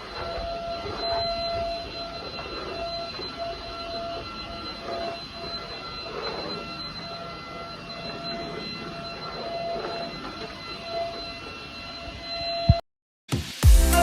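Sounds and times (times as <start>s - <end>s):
vacuum cleaner running: 0.0s - 12.4s.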